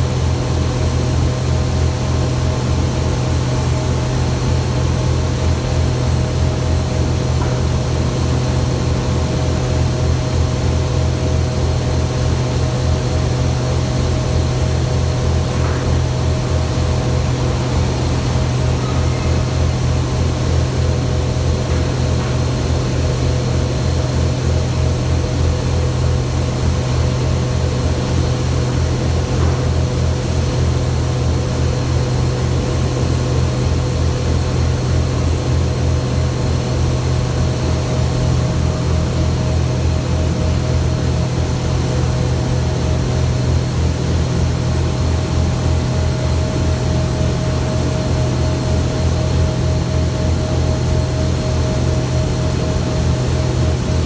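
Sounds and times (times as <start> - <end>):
industrial furnace drone: 0.0 - 54.0.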